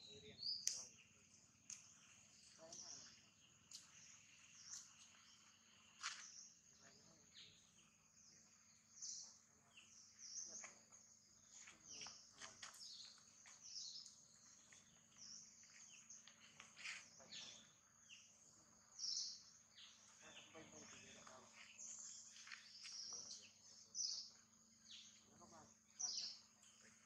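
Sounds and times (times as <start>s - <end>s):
bird chirps: 0.0s - 27.0s.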